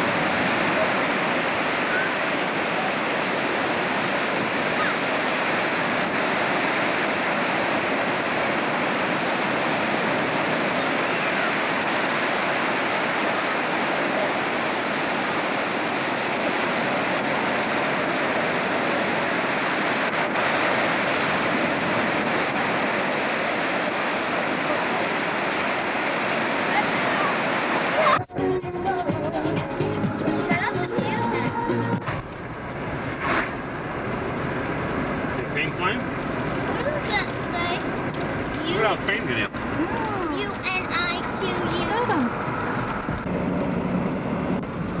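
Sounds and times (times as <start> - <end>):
ocean surf breaking: 0.0 - 45.0.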